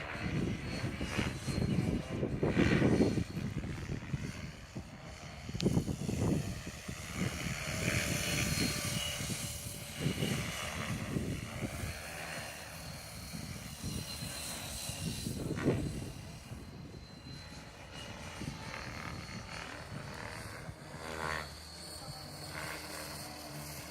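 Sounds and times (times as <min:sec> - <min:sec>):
rc helicopter rotor whining: 0:00.0 - 0:23.9
wind buffeting microphone: 0:00.0 - 0:23.9.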